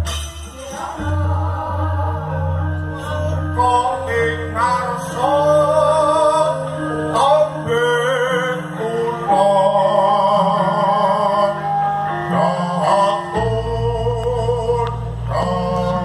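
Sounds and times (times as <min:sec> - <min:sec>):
gamelan ensemble playing: 0:00.0 - 0:16.0
person singing long wavering notes: 0:00.0 - 0:16.0.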